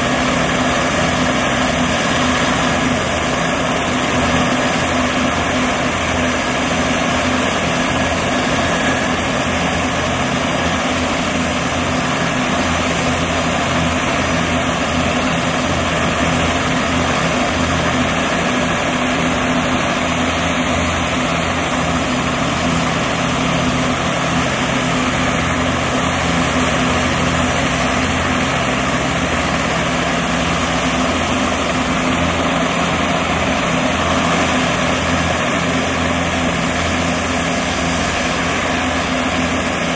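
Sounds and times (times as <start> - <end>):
helicopter rotors turning: 0.0 - 39.9
high turbine whine: 0.0 - 39.9.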